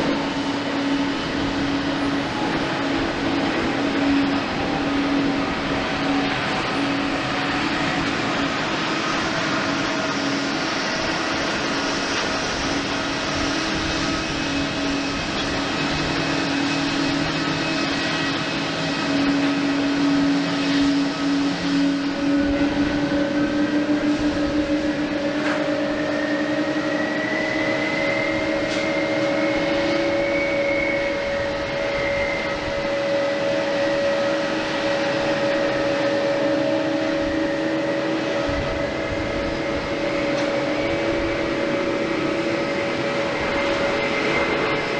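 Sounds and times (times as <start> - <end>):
higher engine whine: 0.0 - 44.9
jet engines whining: 0.0 - 44.9.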